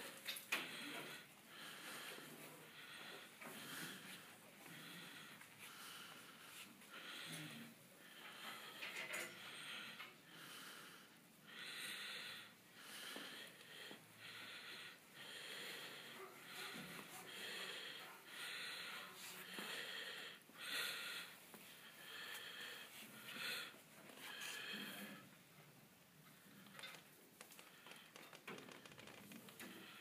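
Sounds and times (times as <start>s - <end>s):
person breathing: 0.1s - 25.4s, 26.3s - 30.0s.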